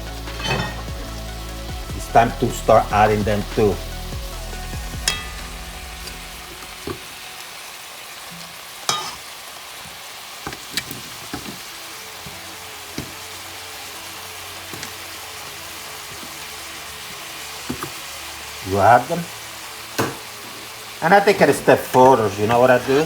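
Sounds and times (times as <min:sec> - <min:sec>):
vegetables sizzling in a pot: 0:00.0 - 0:23.0.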